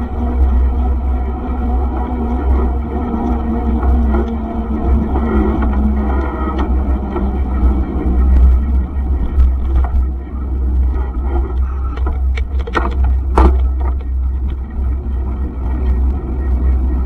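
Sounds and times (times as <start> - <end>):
wind rumble on microphone: 0.0 - 17.0
bike clicks and rattles: 2.2 - 16.8.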